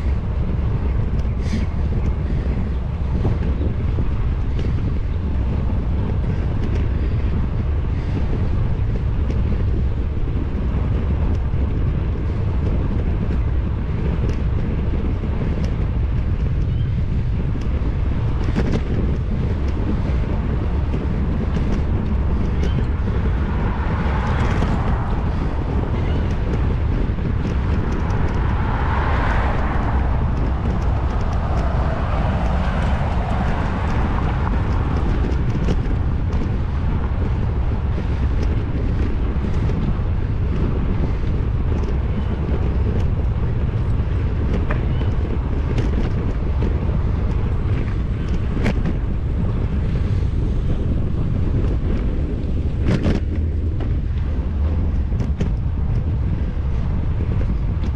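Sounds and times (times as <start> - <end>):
passing vehicle: 0.0 - 57.9
wind rumbling on microphone: 0.0 - 57.9.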